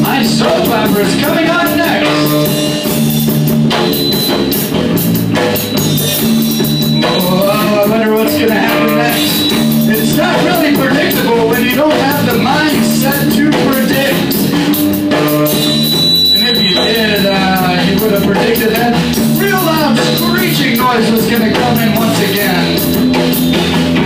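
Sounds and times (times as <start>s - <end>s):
drum kit with cymbals: 0.0s - 24.0s
electric bass: 0.0s - 24.0s
pitch-bending melody line: 0.0s - 24.0s.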